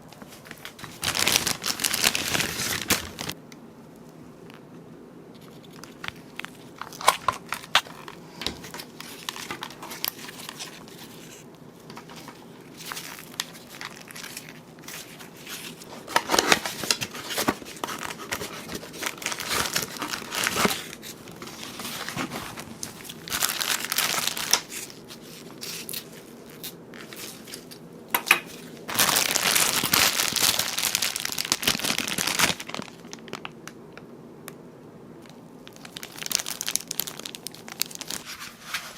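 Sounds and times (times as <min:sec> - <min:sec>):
plastic packaging crinkling: 0:00.0 - 0:03.4, 0:05.4 - 0:33.9, 0:35.2 - 0:38.9.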